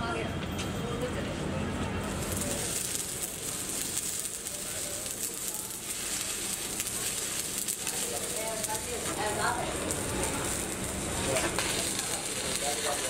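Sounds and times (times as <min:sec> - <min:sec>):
arc welding crackling hiss: 0:01.9 - 0:13.0.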